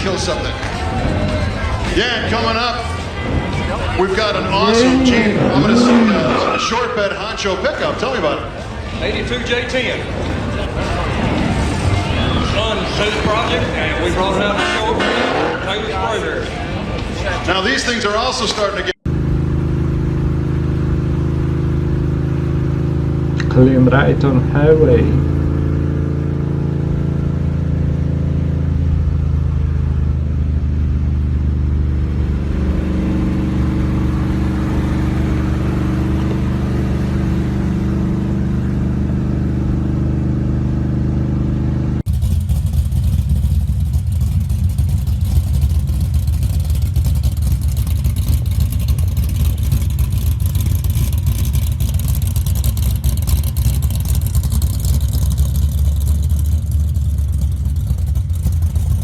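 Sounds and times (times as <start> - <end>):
rough lumpy car engine: 0.0 - 18.0, 19.0 - 59.0
car engine idling: 0.0 - 18.2, 18.8 - 59.0.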